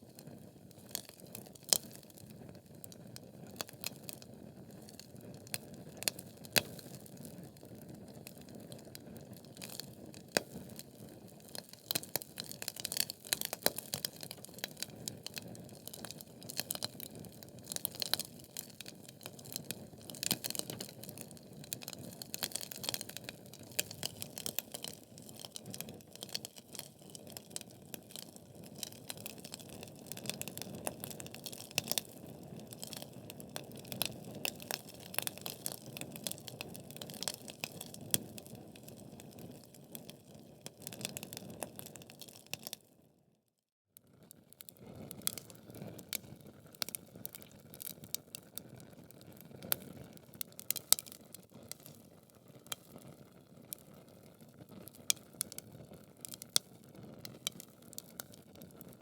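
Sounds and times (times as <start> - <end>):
logs crackling and popping: 0.1 - 42.8, 44.7 - 59.0.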